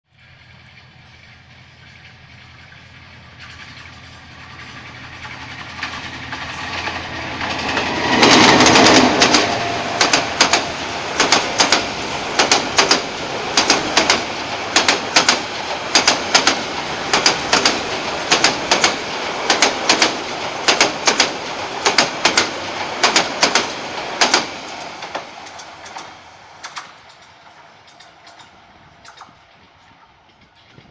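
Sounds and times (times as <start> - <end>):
diesel locomotive passing: 0.1 - 30.9
train wheels clacking on rail joints: 0.3 - 30.9.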